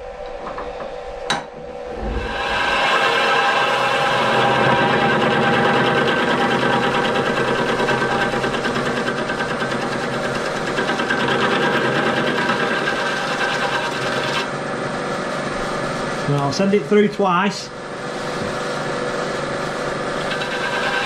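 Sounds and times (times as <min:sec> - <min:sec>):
milling machine motor hum: 0:00.0 - 0:16.8, 0:17.7 - 0:21.0.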